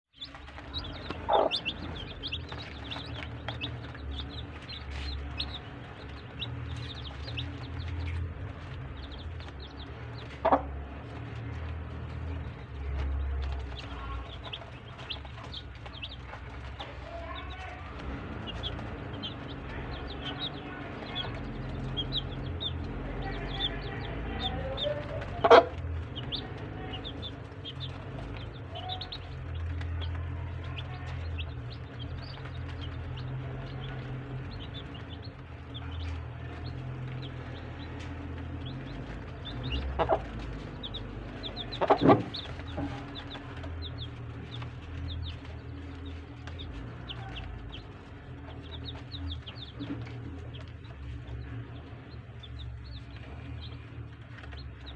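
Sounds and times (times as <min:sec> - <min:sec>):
chicks peeping: 0:00.1 - 0:54.9
hen clucking: 0:00.2 - 0:54.9.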